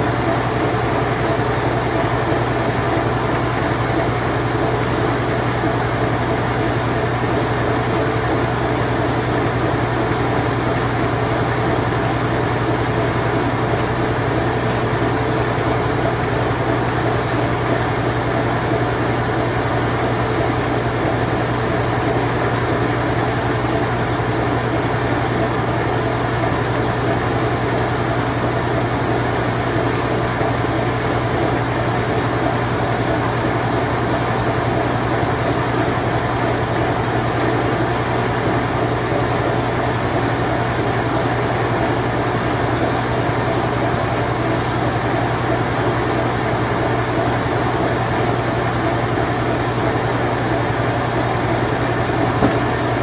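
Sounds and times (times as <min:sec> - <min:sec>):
washing machine spin cycle: 0:00.0 - 0:53.0.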